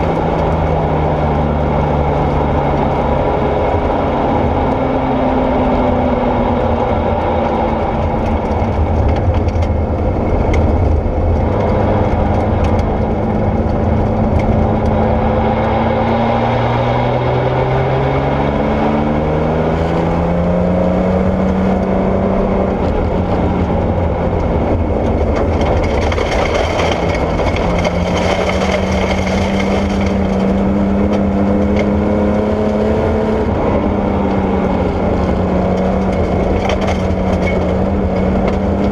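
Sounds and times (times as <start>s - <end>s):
rally car engine accelerating: 0.0s - 38.9s.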